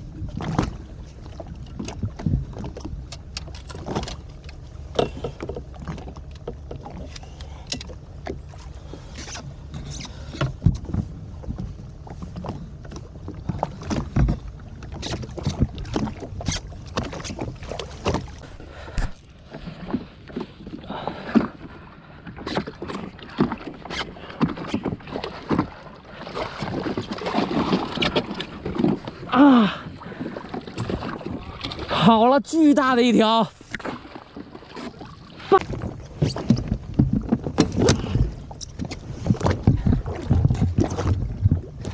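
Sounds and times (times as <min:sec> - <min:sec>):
watercraft engine humming: 0:00.0 - 0:41.9.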